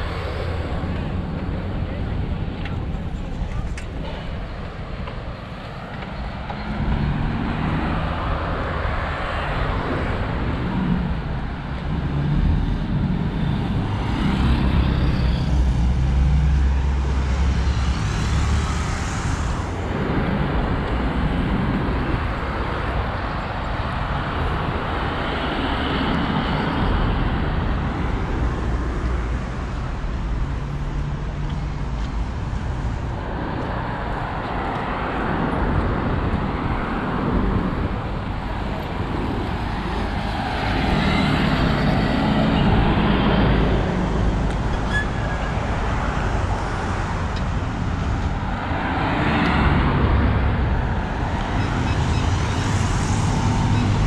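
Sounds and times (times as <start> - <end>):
cars and buses passing: 0.0 - 54.0.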